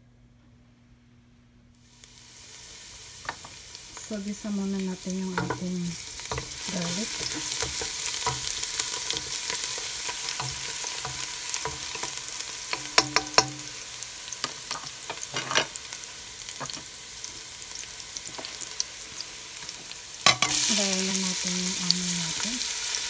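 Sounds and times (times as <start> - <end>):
garlic sizzling in hot oil: 1.8 - 23.0.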